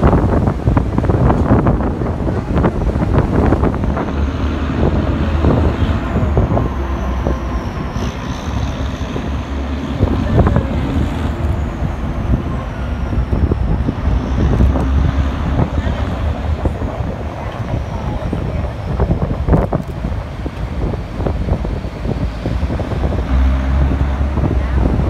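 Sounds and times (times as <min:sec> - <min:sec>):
train rumbling: 0:00.0 - 0:25.0
wind on microphone: 0:00.0 - 0:25.0.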